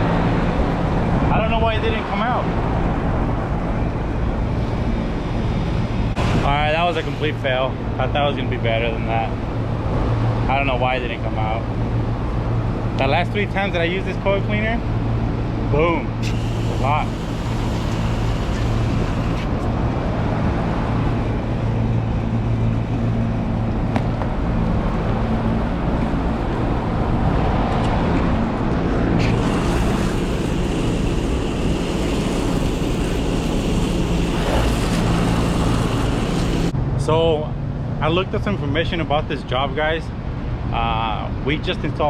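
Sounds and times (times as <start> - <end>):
low compressor hum: 0.0 - 41.5
fan air rushing: 0.0 - 42.0.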